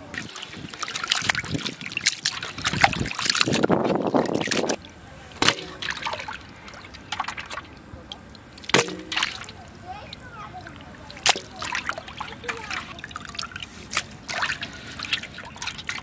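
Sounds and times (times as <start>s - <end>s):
rush of water: 0.0s - 16.0s
water splashing in a container: 0.0s - 16.0s.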